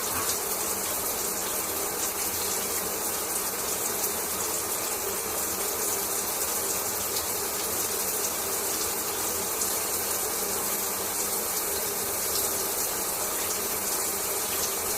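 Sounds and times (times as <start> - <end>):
shower water spraying: 0.0 - 14.9.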